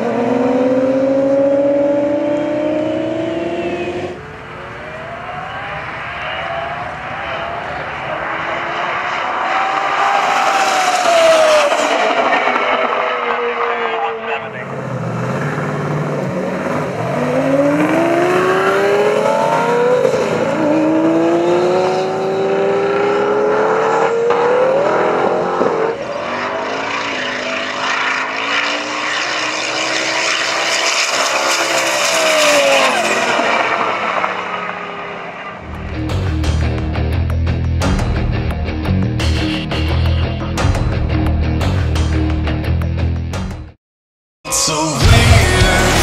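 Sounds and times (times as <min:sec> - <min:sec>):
car engines accelerating hard: 0:00.0 - 0:39.3, 0:45.0 - 0:46.0.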